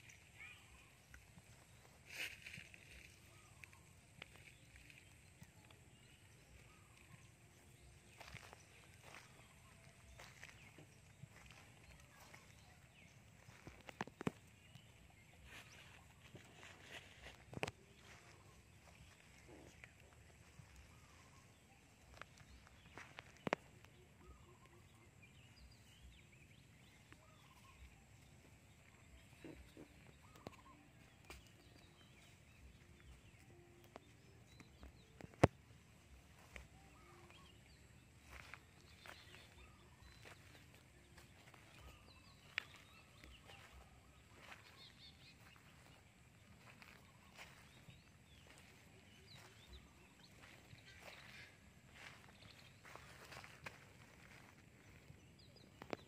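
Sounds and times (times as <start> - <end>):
faint bird calls: 0.0 - 56.0.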